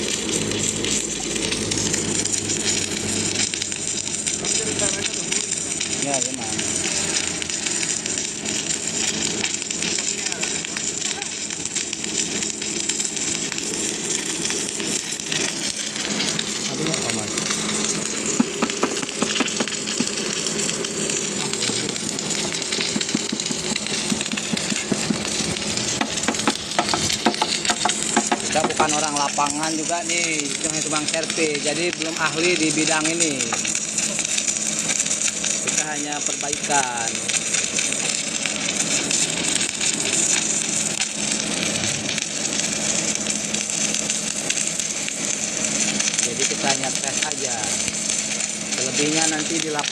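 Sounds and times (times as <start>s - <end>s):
crackle of sharp clicks: 0.0s - 49.9s
welding machine hum: 0.0s - 49.9s.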